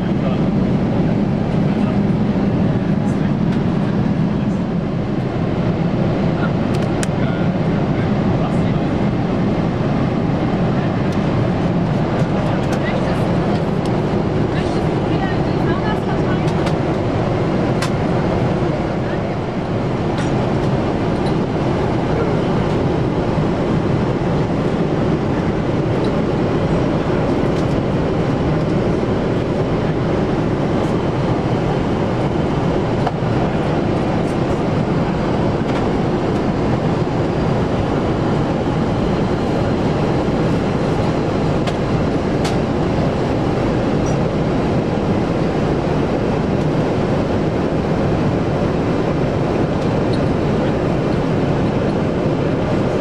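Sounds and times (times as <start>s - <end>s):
airplane cabin rumble and hiss: 0.0s - 53.0s.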